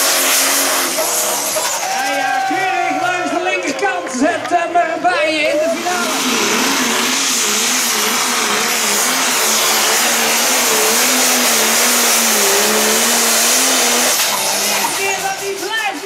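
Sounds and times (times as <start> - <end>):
diesel engine at full throttle: 0.0 - 16.0.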